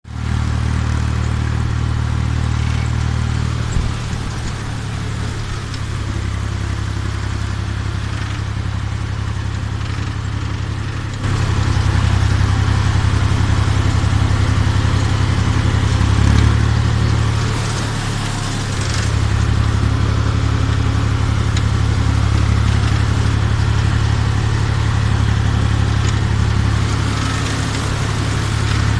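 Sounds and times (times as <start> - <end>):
tractor diesel engine throbbing: 0.0 - 28.9.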